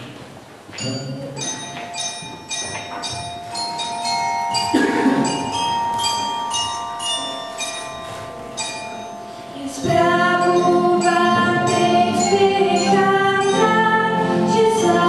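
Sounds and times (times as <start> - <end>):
held instrumental notes: 0.1 - 15.0
bell-like chimes ringing: 0.8 - 15.0.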